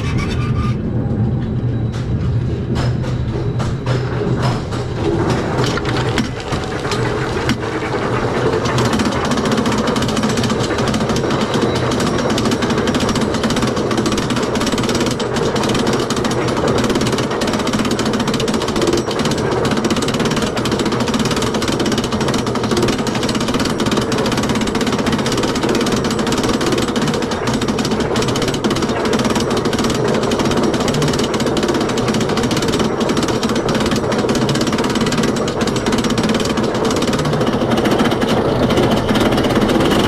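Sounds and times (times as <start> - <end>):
roller coaster chain lift clatter: 0.0 - 40.0.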